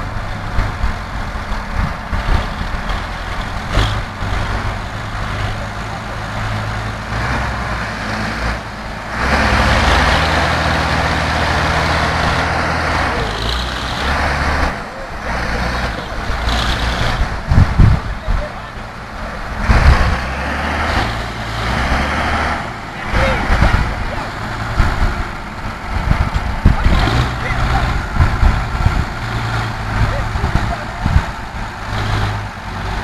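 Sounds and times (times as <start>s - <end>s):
tractor diesel engines under load: 0.0s - 33.0s.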